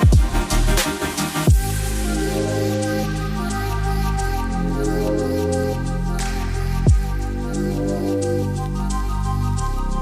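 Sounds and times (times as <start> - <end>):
soft new-age instrumental music: 0.0 - 10.0.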